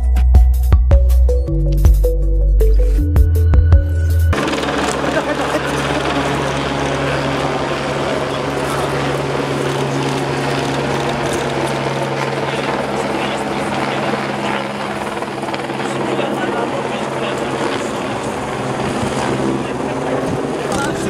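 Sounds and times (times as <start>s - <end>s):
engine drone: 2.8s - 21.0s.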